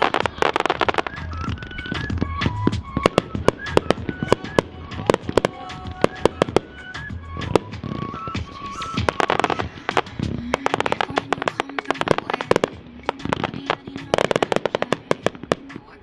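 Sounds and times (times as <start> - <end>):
fireworks bangs: 0.0 - 16.0
fireworks crackle: 0.0 - 16.0
music with stepping melody: 0.0 - 16.0.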